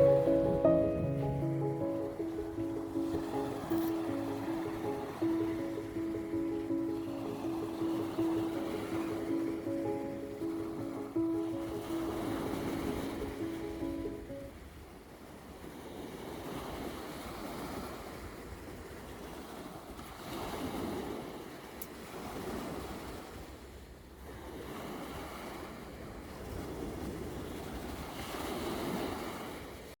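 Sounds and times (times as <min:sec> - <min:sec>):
waves washing onto shore: 0:00.0 - 0:29.9.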